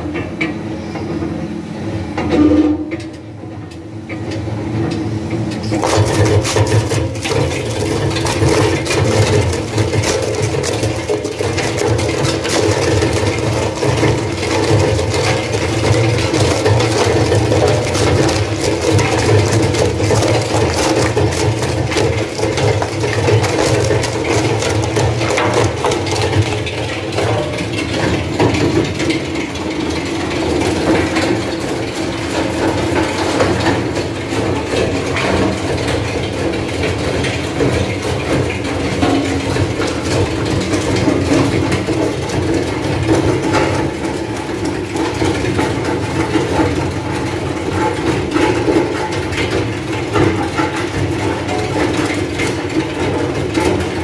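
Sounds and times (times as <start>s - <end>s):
wood shredder humming: 5.6s - 54.0s.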